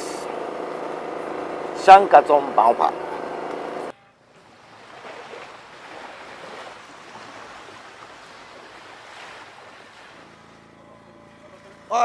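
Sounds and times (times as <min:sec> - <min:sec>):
sea waves: 0:00.0 - 0:12.0
wind: 0:00.0 - 0:12.0.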